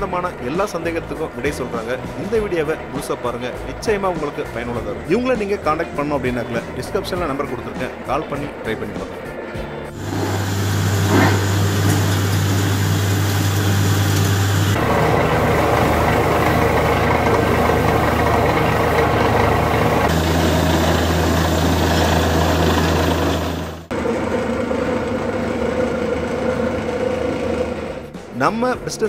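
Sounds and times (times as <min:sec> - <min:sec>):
diesel engine running: 0:00.0 - 0:28.4.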